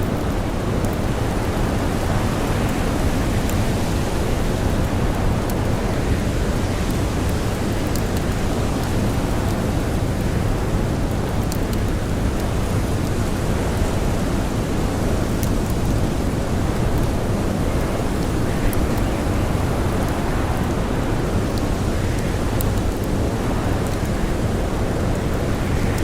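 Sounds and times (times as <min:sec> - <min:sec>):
blizzard wind blowing: 0:00.0 - 0:26.0
campfire crackling: 0:00.0 - 0:26.0.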